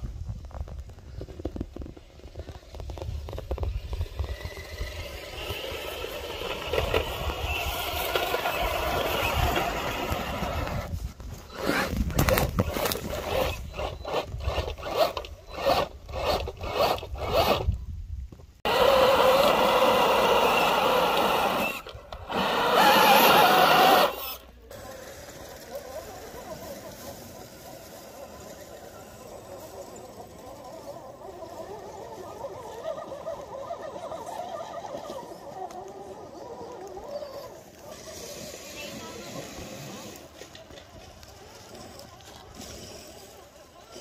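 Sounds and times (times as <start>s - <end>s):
electric motors whining: 3.7s - 17.8s, 18.7s - 44.0s.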